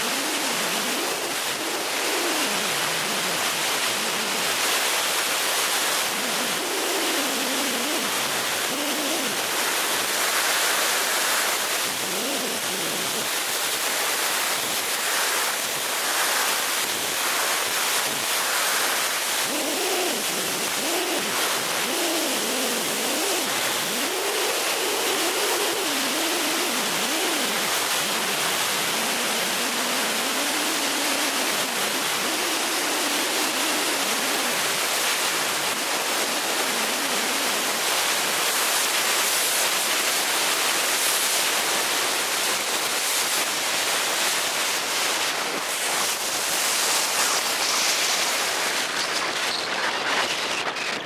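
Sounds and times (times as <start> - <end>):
airflow rushing over glider canopy: 0.0 - 49.0.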